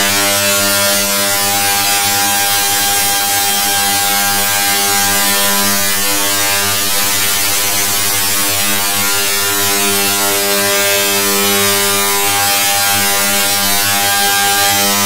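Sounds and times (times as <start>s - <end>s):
distorted electronic buzzing drone: 0.0s - 15.0s.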